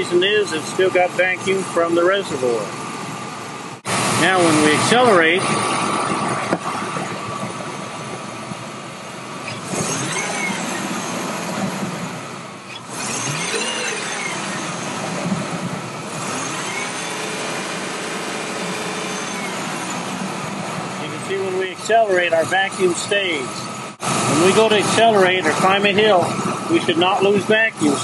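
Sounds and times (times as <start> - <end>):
car engine revving: 3.8 - 28.0.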